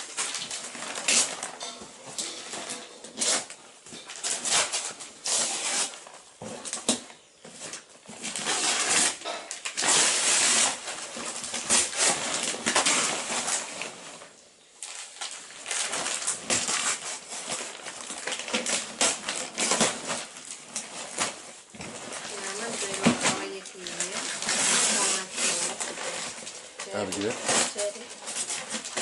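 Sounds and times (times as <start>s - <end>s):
wrapping paper tearing: 0.0s - 7.0s, 7.6s - 29.0s
paper crinkling: 0.0s - 29.0s.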